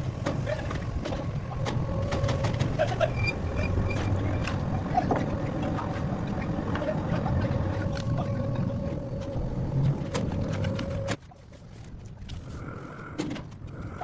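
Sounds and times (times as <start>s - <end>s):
heavy machinery rumbling: 0.0s - 14.0s.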